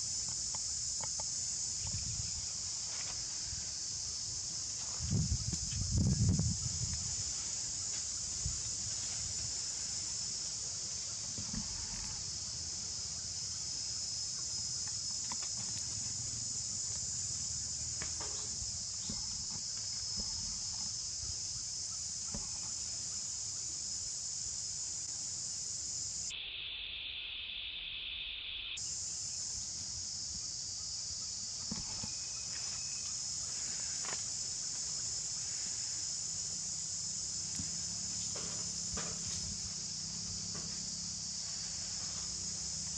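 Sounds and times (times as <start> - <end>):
insects shrilling: 0.0 - 42.9.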